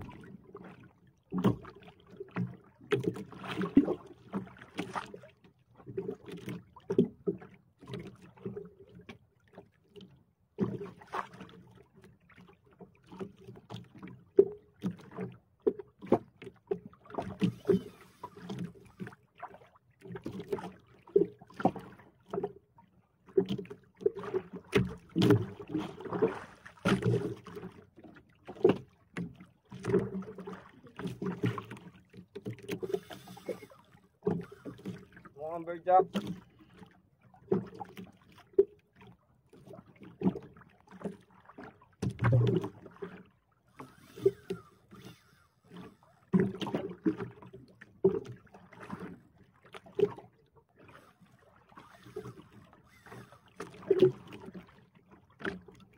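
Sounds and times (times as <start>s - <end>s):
water slapping against boat hull: 0.0s - 22.6s, 23.2s - 55.9s.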